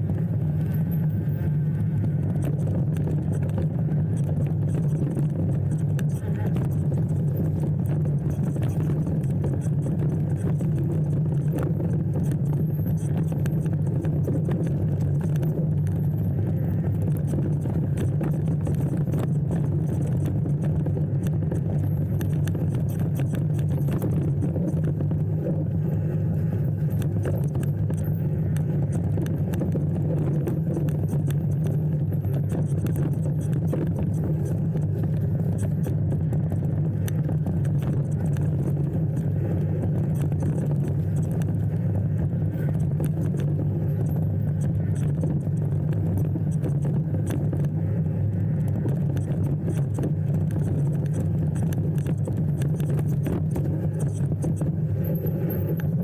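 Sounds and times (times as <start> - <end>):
road rumble: 0.0 - 56.0
vehicle engine drone: 0.0 - 56.0.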